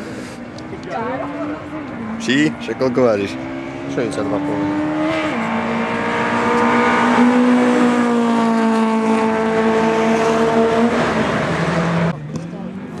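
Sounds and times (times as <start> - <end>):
race car engine at high revs: 0.6 - 13.0.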